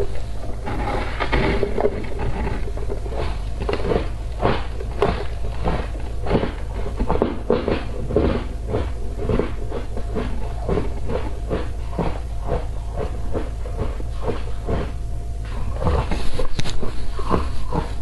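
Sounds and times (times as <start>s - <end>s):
ice being chewed: 0.0s - 18.0s
low rumble: 0.0s - 18.0s.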